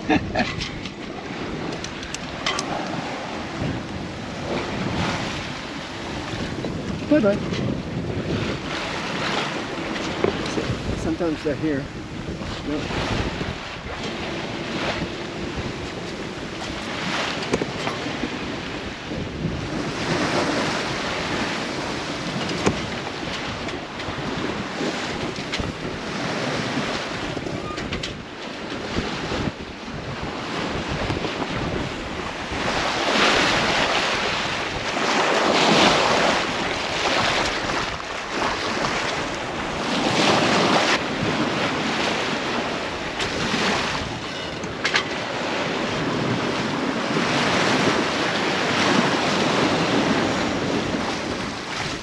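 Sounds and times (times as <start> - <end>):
ocean waves rushing: 0.0 - 52.0
wind on microphone: 0.0 - 52.0.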